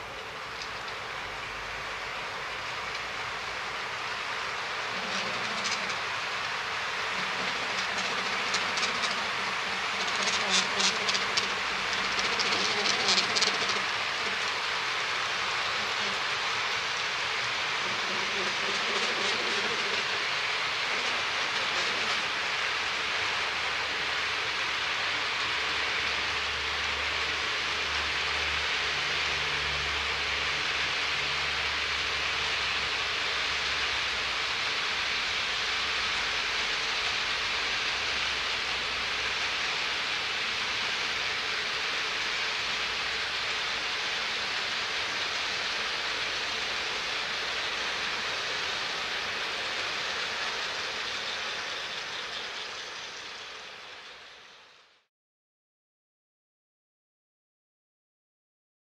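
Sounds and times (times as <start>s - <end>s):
model train rolling on track: 0.0s - 55.0s.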